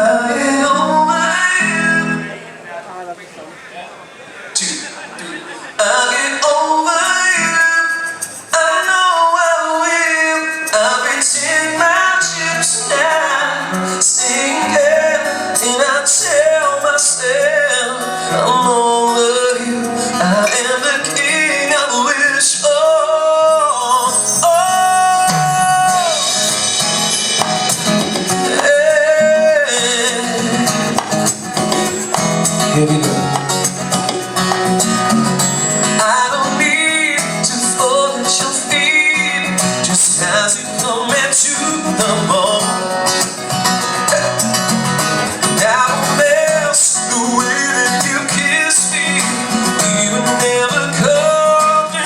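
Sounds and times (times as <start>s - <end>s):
man singing: 0.0s - 2.6s, 4.6s - 34.1s, 34.8s - 52.0s
amplified backing music: 0.0s - 3.1s, 5.7s - 52.0s.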